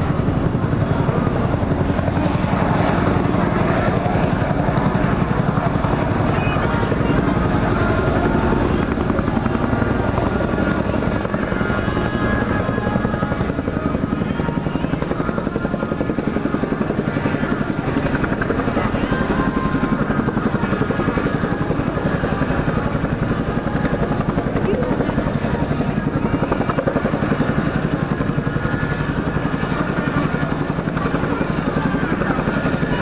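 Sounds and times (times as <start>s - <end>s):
helicopter rotors beating: 0.0s - 33.0s.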